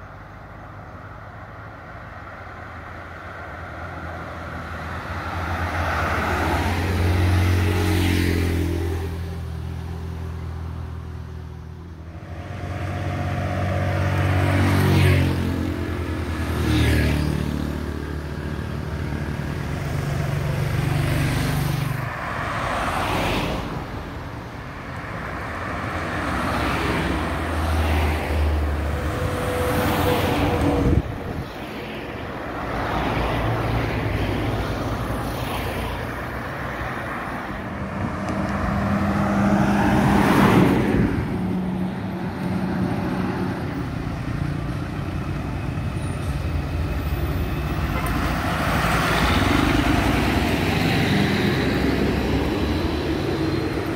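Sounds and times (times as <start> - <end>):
road traffic passing: 0.0 - 53.9.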